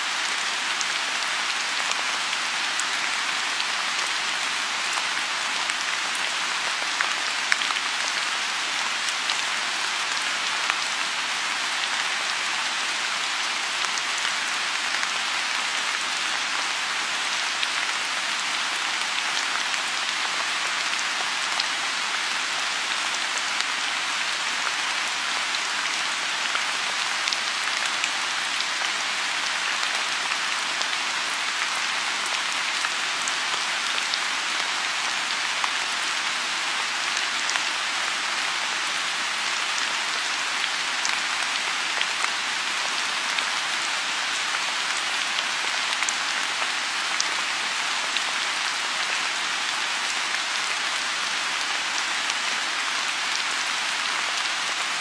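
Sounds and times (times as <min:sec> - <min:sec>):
rain falling on a pond: 0:00.0 - 0:55.0.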